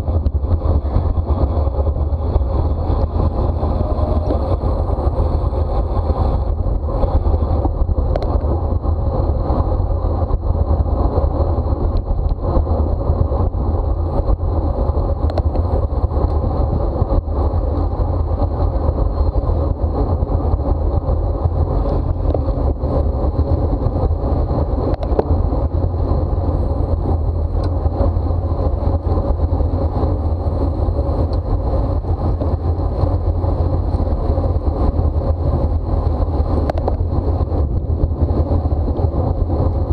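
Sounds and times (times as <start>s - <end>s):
bicycle tyre and drivetrain noise: 0.0s - 39.9s
wind buffeting microphone: 0.0s - 39.9s.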